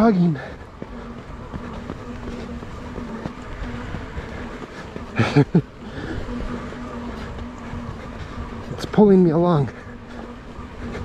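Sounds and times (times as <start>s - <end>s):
electric motor whining: 0.6s - 11.0s.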